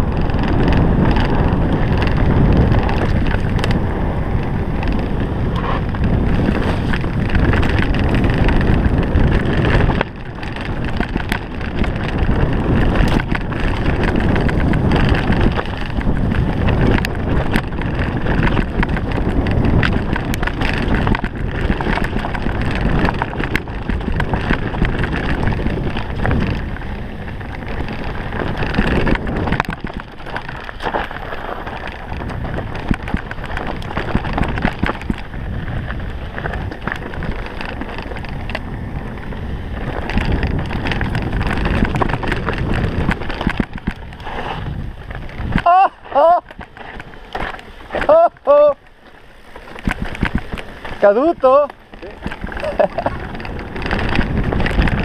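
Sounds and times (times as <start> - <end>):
bike rattling over bumps: 0.0 - 55.0
tyres crunching over dirt: 0.0 - 55.0
wind buffeting microphone: 0.0 - 55.0.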